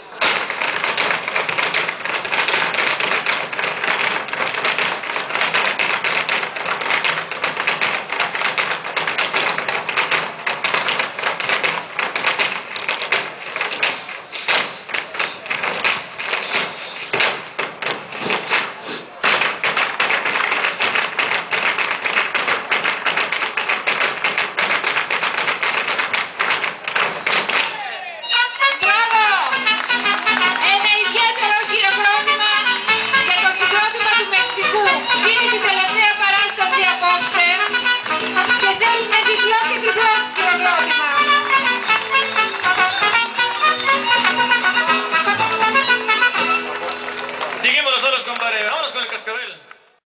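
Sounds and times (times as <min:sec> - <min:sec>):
shoes stamping on stage floor: 0:00.0 - 0:49.9.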